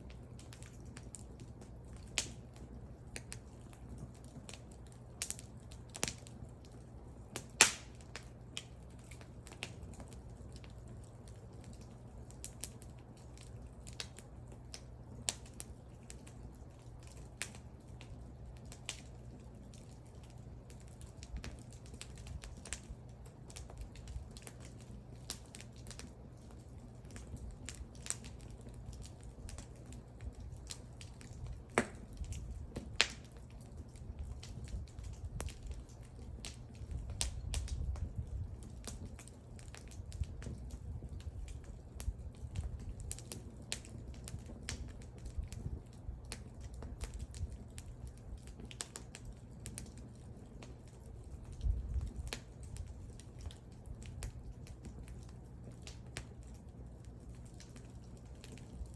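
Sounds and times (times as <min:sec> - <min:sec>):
wood fire crackling: 0:00.0 - 0:58.9
sharp pops and snaps: 0:00.1 - 0:58.9.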